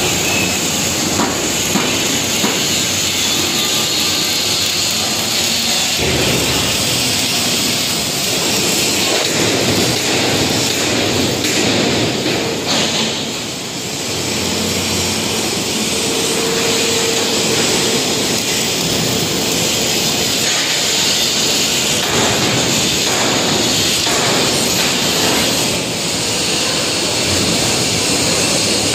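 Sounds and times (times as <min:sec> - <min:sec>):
loud workshop machinery noise: 0:00.0 - 0:28.9.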